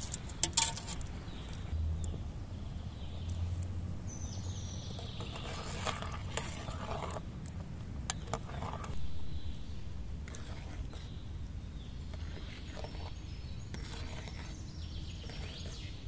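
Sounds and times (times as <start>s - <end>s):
wooden spoon stirring rice: 0.0s - 2.3s, 4.8s - 16.0s.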